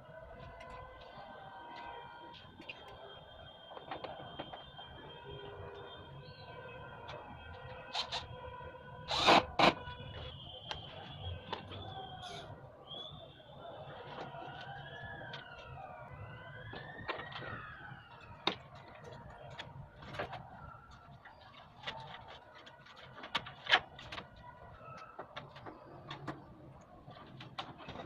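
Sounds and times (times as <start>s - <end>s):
siren wailing: 0.0s - 22.8s.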